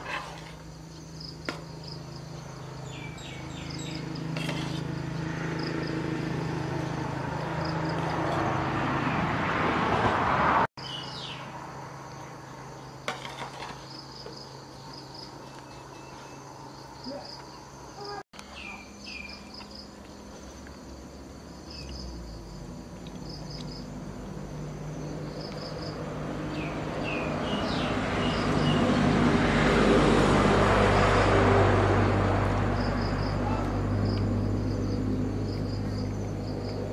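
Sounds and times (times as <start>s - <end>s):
insects chirping: 0.0s - 9.6s, 10.8s - 29.1s, 32.4s - 36.9s.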